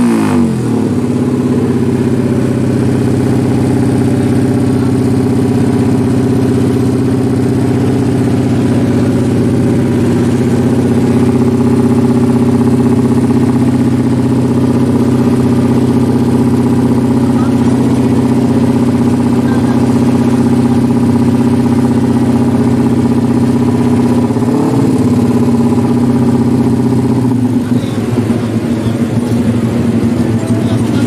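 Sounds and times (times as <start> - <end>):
motorcycle engine idling: 0.1 - 31.0.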